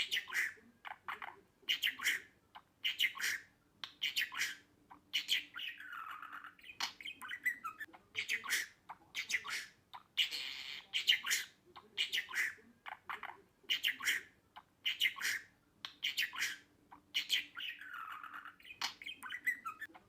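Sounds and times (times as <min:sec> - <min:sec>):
harsh budgerigar call: 0:00.0 - 0:04.6, 0:05.2 - 0:20.0
budgerigar chirping and chattering: 0:00.0 - 0:20.0.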